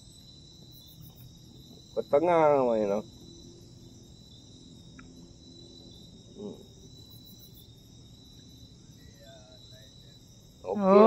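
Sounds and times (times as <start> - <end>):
insects chirring: 0.0 - 11.0
louder insect call: 0.0 - 11.0.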